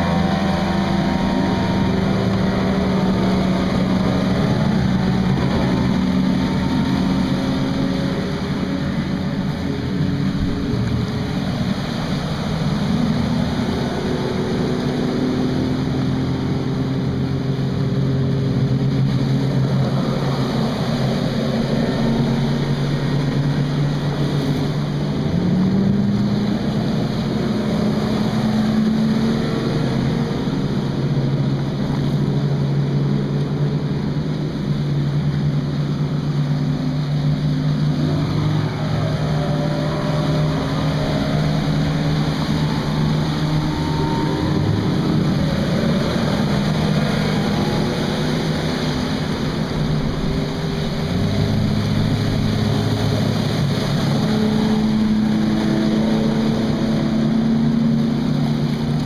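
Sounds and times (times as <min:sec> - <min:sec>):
outboard motors passing: 0:00.0 - 0:59.0
rush of wind and water: 0:00.0 - 0:59.0.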